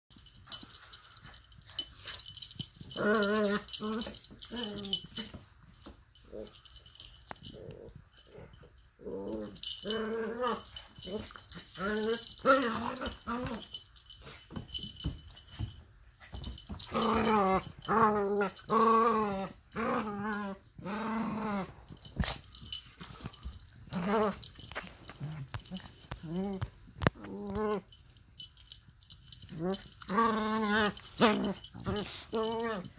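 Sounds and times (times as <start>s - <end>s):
claws clicking and tags jingling: 0.1s - 20.6s, 21.5s - 32.9s
dogs growling: 1.2s - 5.4s, 6.2s - 15.1s, 16.6s - 27.9s, 29.4s - 32.9s.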